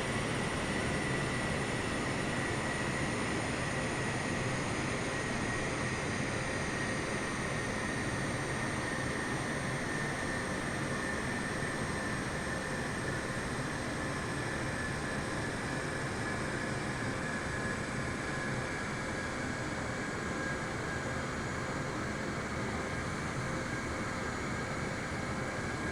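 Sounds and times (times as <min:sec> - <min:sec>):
jet engines roaring with whine: 0:00.0 - 0:25.9.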